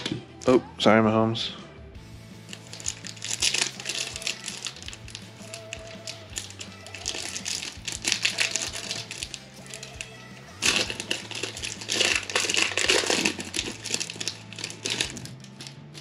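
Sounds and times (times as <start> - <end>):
background music: 0.0 - 16.0
foil pack tearing and crinkling: 2.5 - 16.0.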